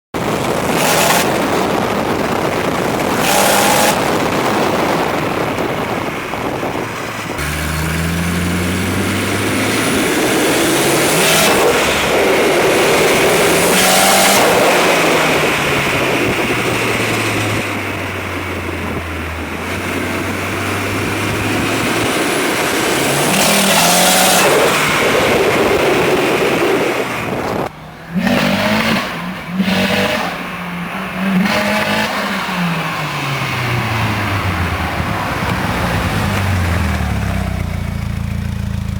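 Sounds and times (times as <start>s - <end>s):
misfiring car engine: 0.1s - 38.9s.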